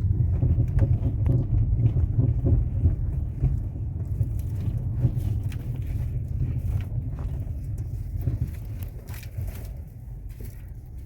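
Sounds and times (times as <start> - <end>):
low road rumble: 0.0 - 11.0
suspension clunking: 0.0 - 11.0.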